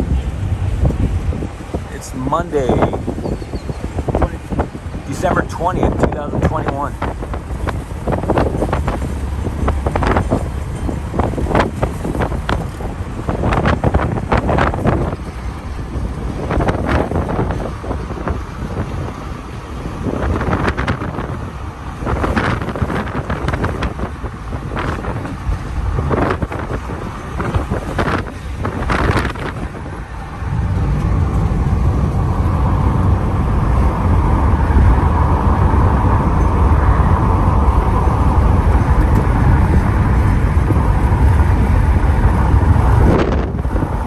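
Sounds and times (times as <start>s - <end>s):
road noise: 0.0s - 44.0s
wind buffeting microphone: 0.0s - 44.0s.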